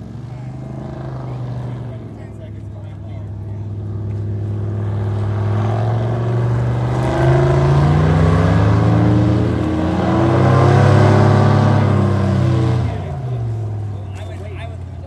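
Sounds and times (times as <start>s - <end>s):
airboat engine revving: 0.0s - 15.0s.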